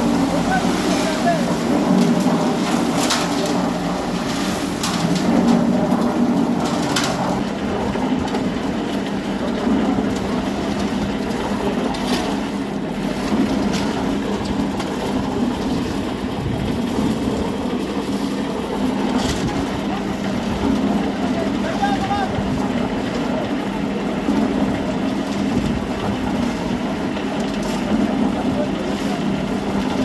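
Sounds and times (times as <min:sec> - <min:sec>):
concrete mixer running: 0:00.0 - 0:30.0.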